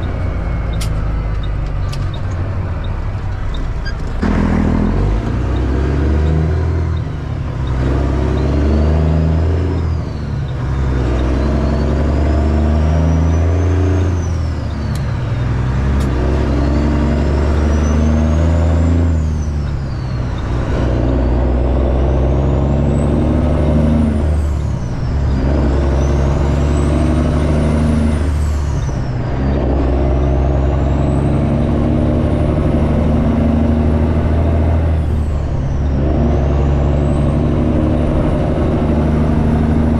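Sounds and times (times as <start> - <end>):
diesel truck engine through gears: 0.0 - 39.9
turbocharger whistle: 3.8 - 39.9.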